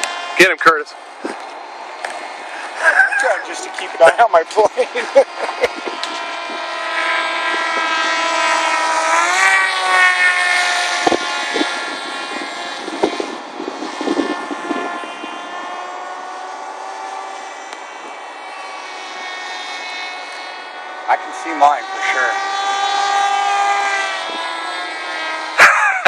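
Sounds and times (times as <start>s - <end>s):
electric motor and propeller whining: 0.0s - 26.0s.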